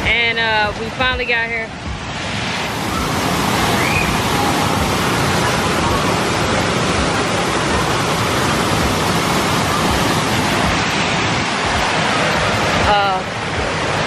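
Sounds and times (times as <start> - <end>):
waterfall rushing: 1.4 - 14.0.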